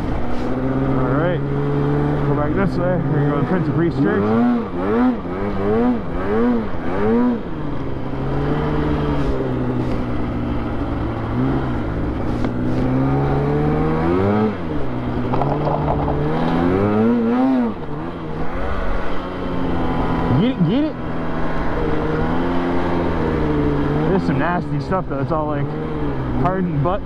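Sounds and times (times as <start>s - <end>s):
snowmobile engine revving: 0.0s - 27.0s.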